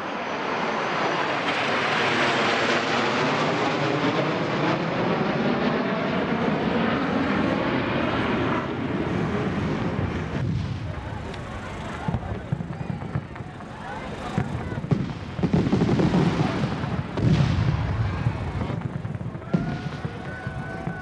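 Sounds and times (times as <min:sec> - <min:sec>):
propeller aeroplane engine droning: 0:00.0 - 0:21.0.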